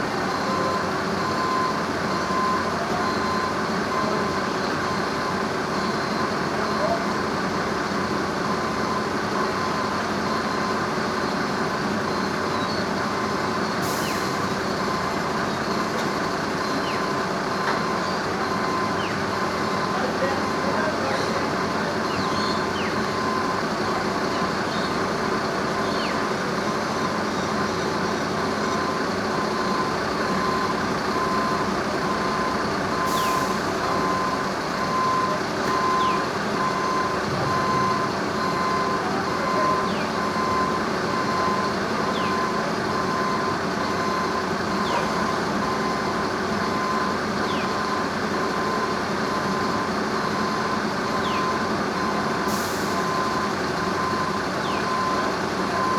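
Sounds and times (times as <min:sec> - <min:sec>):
heavy vehicle engine running: 0:00.0 - 0:55.9
reversing alarm beeps: 0:00.0 - 0:55.9.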